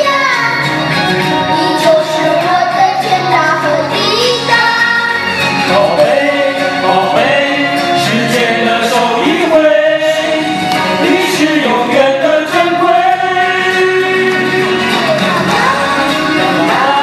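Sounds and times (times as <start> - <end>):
group singing a pop song: 0.0 - 17.0
instrumental accompaniment: 0.0 - 17.0.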